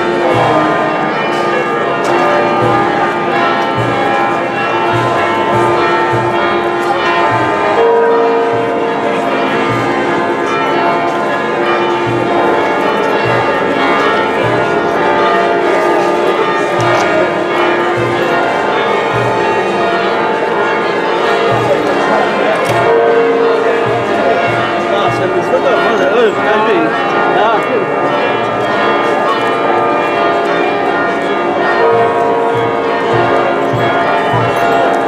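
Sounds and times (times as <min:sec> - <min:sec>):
church bells pealing: 0:00.0 - 0:35.0.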